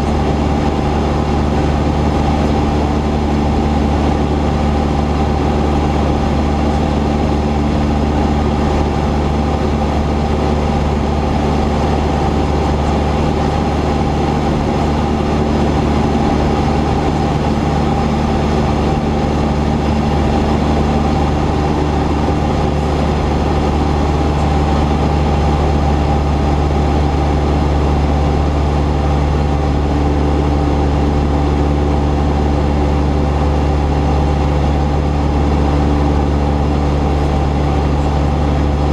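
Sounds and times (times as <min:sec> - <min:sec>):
propeller aircraft engine droning: 0:00.0 - 0:38.9.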